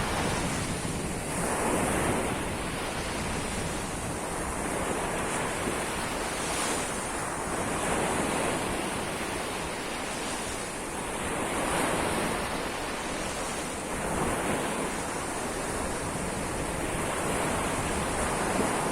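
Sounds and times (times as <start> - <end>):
sea waves breaking: 0.0 - 18.9.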